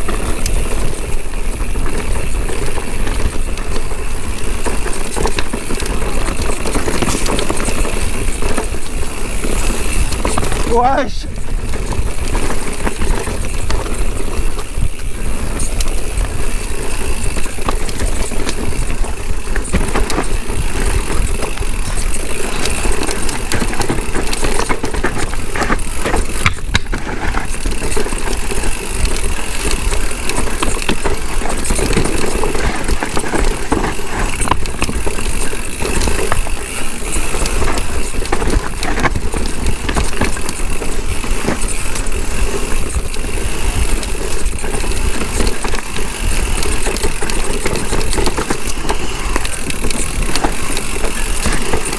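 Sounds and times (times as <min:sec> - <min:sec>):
bike rattling and knocking: 0:00.0 - 0:51.9
wind and tyre noise: 0:00.0 - 0:51.9.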